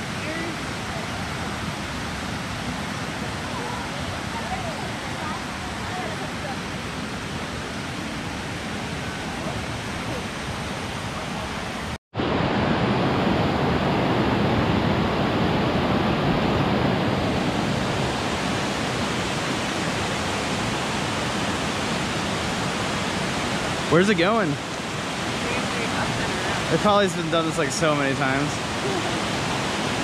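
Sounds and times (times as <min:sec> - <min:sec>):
water rushing over cascades: 0:00.0 - 0:30.0.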